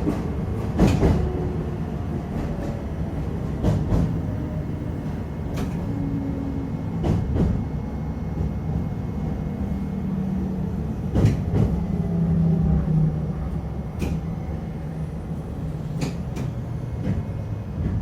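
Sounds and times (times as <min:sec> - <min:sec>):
railcar rumbling on track: 0:00.0 - 0:18.0.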